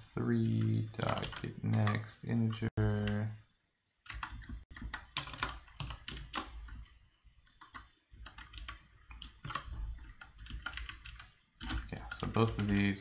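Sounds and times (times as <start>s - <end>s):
keyboard typing: 0.3s - 3.2s, 4.0s - 13.0s.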